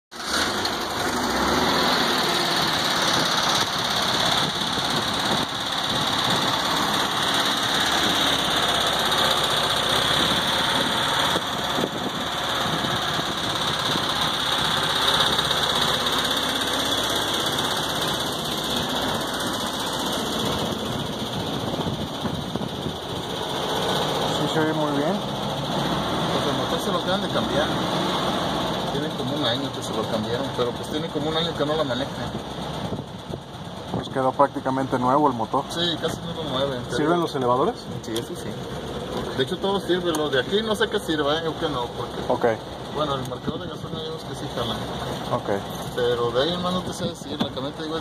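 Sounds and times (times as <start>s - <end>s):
air-cooled engine idling: 0.1s - 48.0s.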